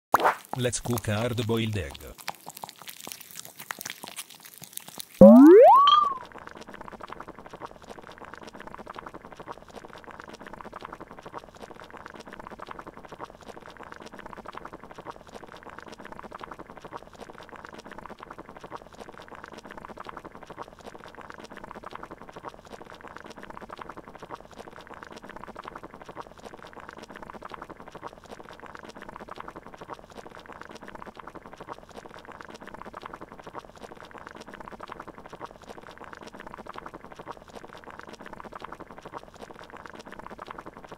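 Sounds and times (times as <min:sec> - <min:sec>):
water boiling: 0:00.4 - 0:06.1, 0:06.8 - 0:40.9.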